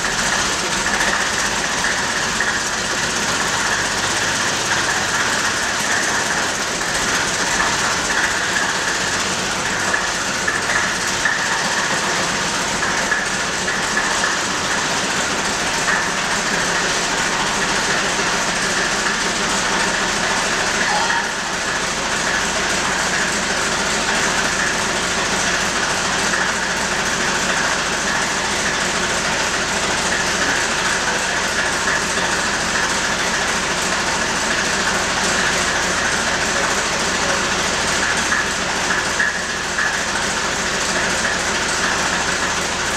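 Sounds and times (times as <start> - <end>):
diesel truck engine running: 0.0 - 42.9.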